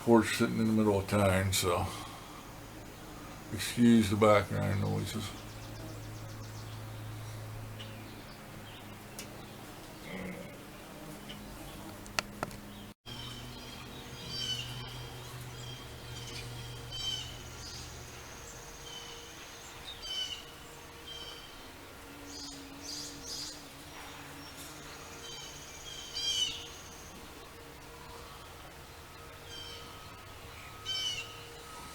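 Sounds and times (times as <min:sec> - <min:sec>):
distant traffic and mower hum: 0:00.0 - 0:31.9.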